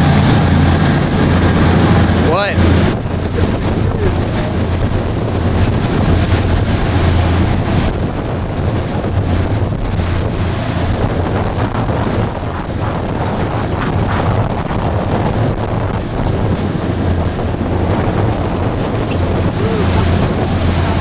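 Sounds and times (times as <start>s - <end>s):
boat engine droning: 0.0s - 21.0s
water moving past hull: 0.0s - 21.0s
wind buffeting microphone: 0.0s - 21.0s.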